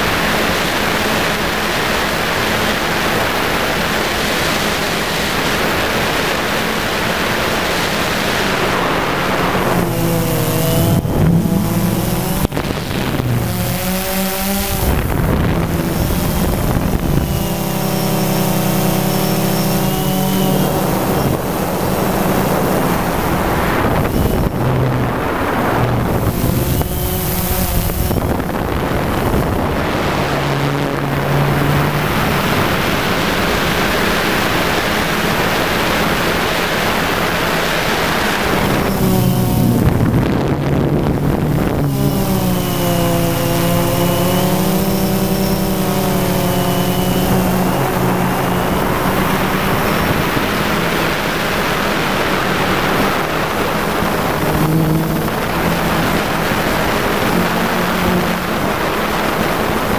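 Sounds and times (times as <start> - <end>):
drone propellers whirring: 0.0 - 59.9
wind noise: 0.0 - 59.9.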